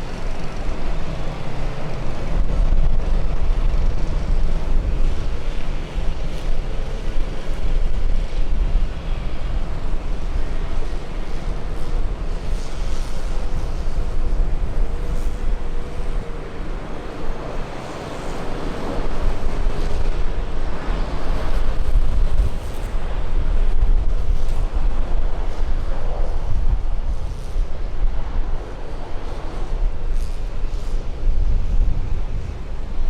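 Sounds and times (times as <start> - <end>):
faint jet airliner engine: 0.0 - 33.0
wind buffeting the microphone: 0.0 - 33.0.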